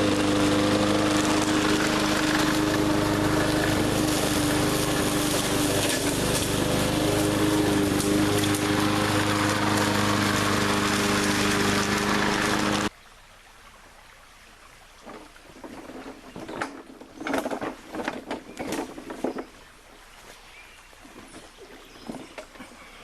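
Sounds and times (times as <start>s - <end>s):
push mower engine under load: 0.0s - 12.9s, 15.1s - 19.6s, 21.1s - 23.0s.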